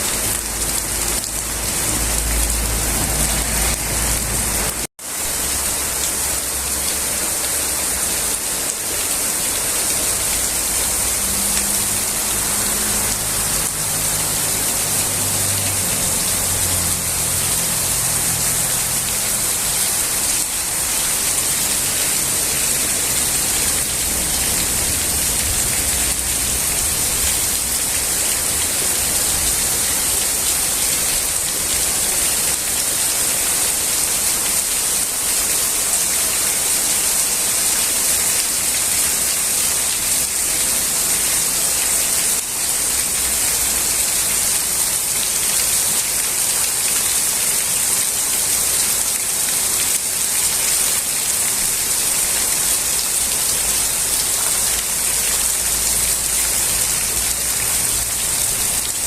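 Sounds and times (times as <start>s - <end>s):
heavy rain on surfaces: 0.0s - 59.0s.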